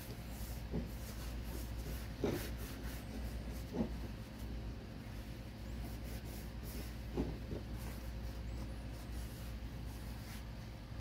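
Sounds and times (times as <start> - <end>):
paper towel wiping metal: 0.0 - 10.9
low steady hum: 0.0 - 11.0.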